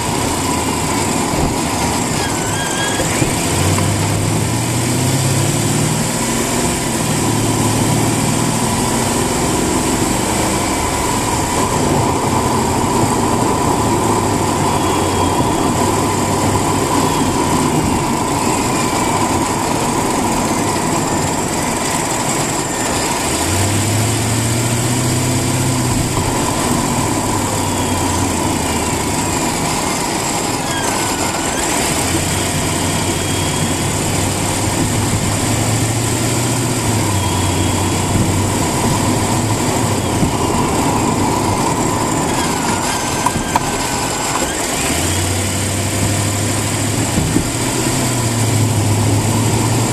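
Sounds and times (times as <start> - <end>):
car engine revving: 0.0 - 49.9
steady high whine: 0.0 - 49.9.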